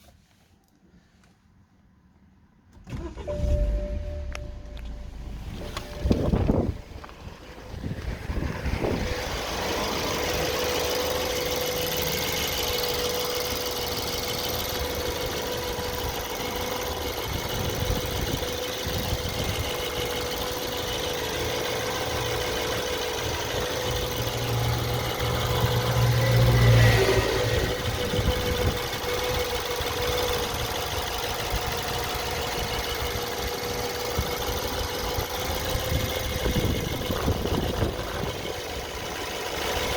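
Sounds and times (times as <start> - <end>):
car engine idling: 2.8 - 39.9.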